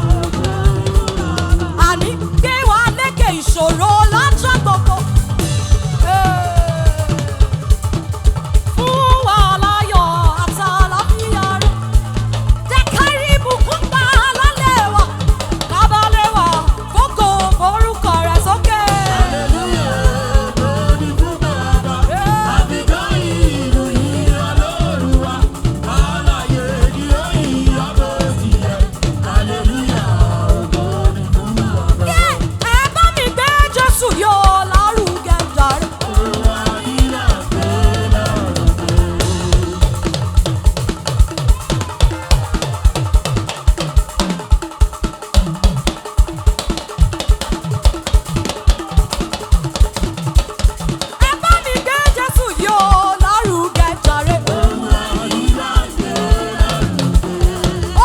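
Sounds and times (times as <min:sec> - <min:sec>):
drum kit beat: 0:00.0 - 0:58.0.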